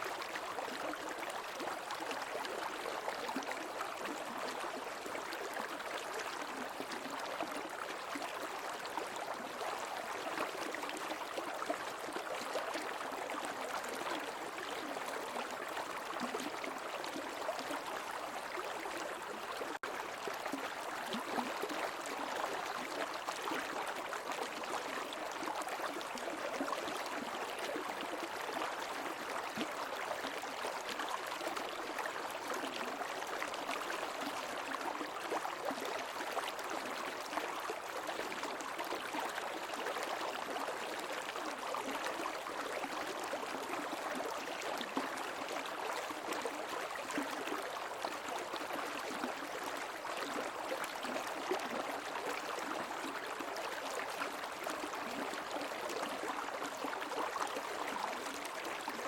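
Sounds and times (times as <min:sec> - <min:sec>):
stream water babbling over rocks: 0:00.0 - 0:59.0.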